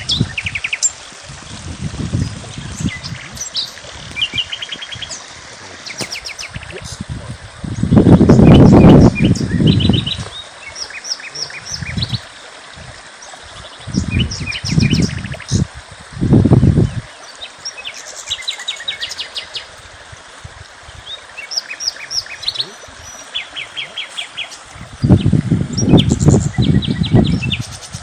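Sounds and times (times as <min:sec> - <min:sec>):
songbirds chirping: 0:00.0 - 0:15.7, 0:16.7 - 0:19.8, 0:20.7 - 0:28.0.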